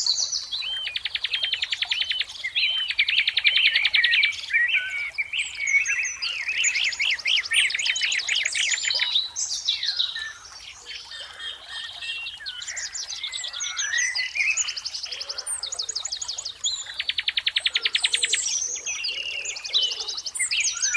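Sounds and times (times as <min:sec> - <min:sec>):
songbirds chirping and singing: 0:00.0 - 0:20.9.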